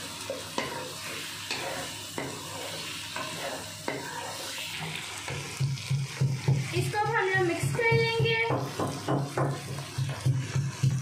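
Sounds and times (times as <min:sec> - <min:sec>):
chicken sizzling in oil: 0:00.0 - 0:11.0
wooden spatula scraping pan: 0:00.4 - 0:11.0.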